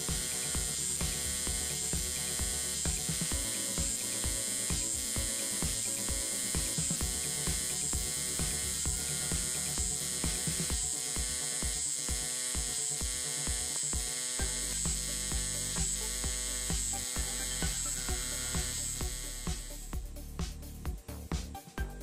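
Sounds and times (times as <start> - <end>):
pulsing welding arc buzz: 0.0 - 20.0.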